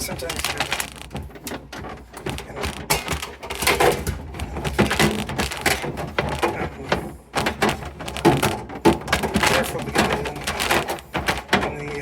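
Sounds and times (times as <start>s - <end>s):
objects knocking and clattering: 0.0s - 12.0s.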